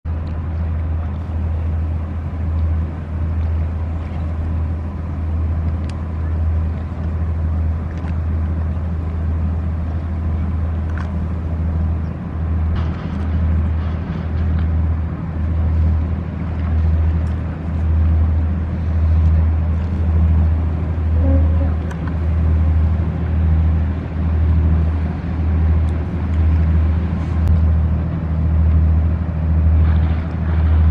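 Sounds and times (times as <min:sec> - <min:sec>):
ship diesel engine droning: 0:00.1 - 0:30.9.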